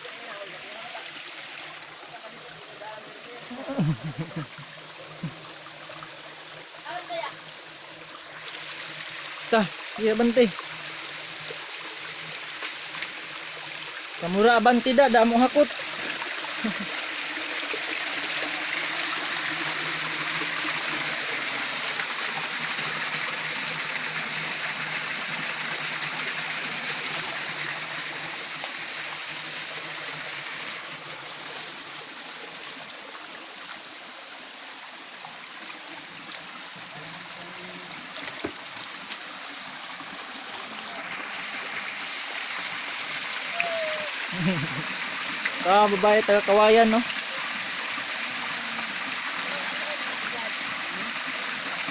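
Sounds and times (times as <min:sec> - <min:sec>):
water rushing over stones: 0:00.0 - 0:51.9.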